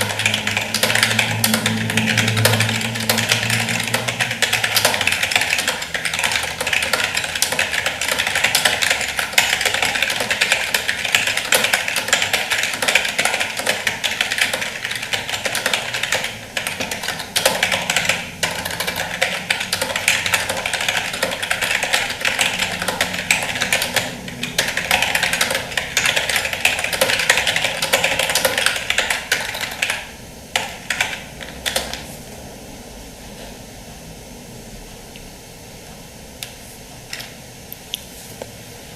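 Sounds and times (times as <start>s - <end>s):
keyboard typing: 0.0s - 32.1s.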